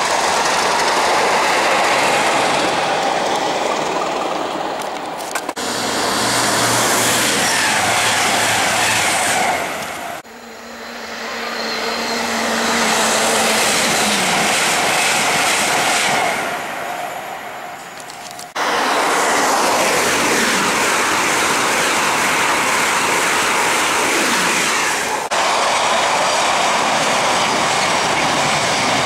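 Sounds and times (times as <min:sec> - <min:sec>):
trains rushing past: 0:00.0 - 0:29.0.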